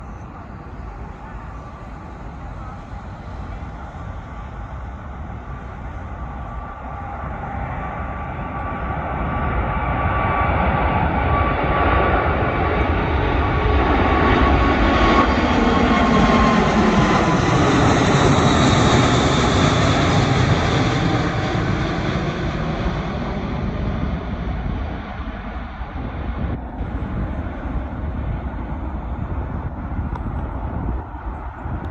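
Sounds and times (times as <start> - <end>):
jet airliner roar passing: 0.0 - 31.9.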